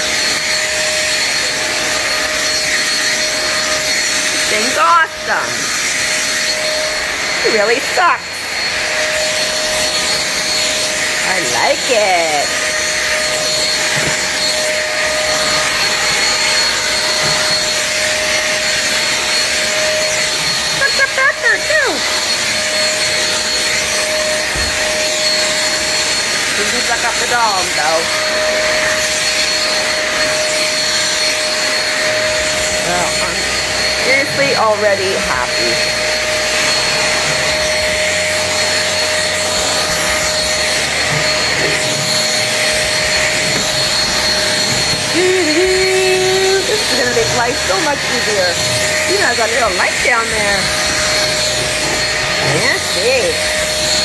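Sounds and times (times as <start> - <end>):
stick vacuum cleaner running: 0.0 - 54.0.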